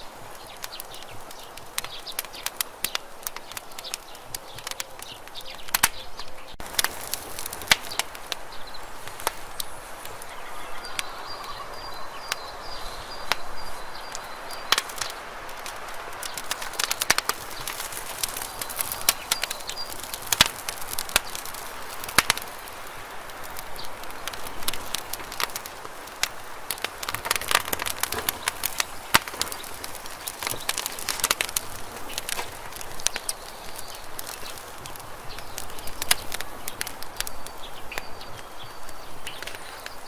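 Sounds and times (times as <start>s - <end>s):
campfire crackling and popping: 0.0s - 40.0s
soft steady hiss: 0.0s - 40.0s.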